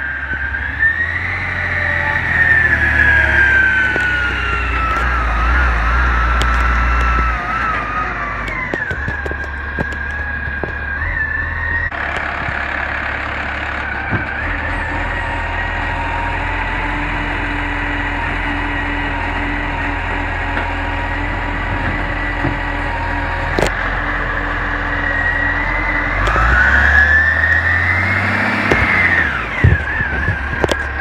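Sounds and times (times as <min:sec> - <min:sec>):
engine whine: 0:00.0 - 0:31.0
garbage truck engine rumbling: 0:00.0 - 0:31.0
hydraulic arm lifting bin: 0:00.0 - 0:31.0.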